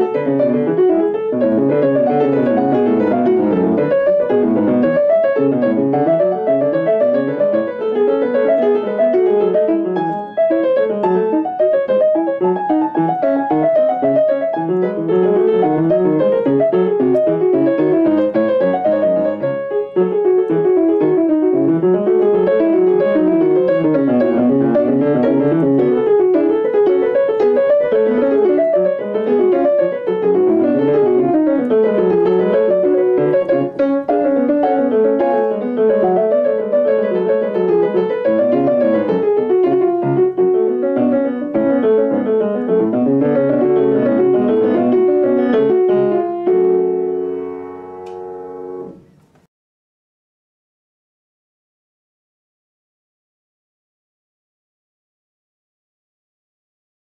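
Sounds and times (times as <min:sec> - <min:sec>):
piano music: 0:00.0 - 0:49.5.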